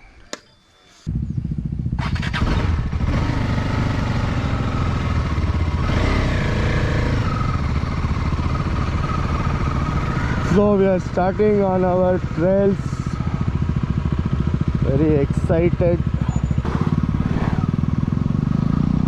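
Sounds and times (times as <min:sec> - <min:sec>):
motorcycle engine running: 0:01.1 - 0:19.0.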